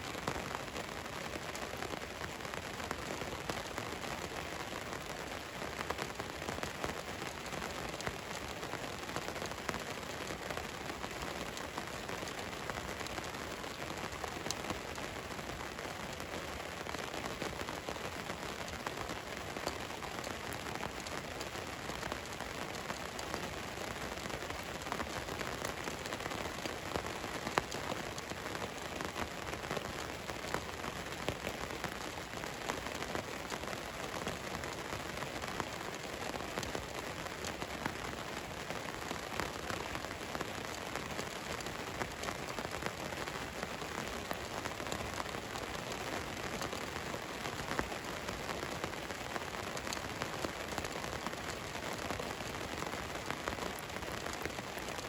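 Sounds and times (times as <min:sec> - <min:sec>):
rain pattering on a van: 0:00.0 - 0:55.0.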